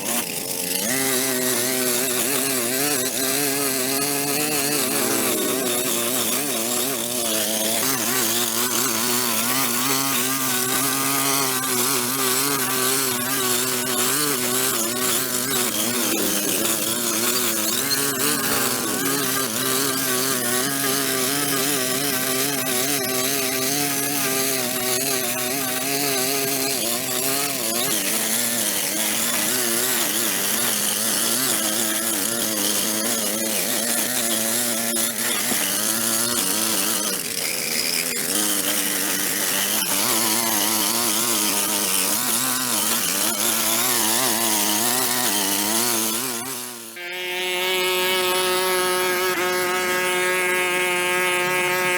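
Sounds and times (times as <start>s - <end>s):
small petrol engine running: 0.0s - 51.9s.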